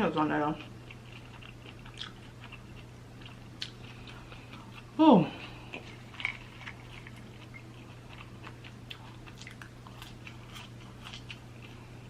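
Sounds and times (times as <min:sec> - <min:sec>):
mouth chewing sounds: 0:00.1 - 0:12.0.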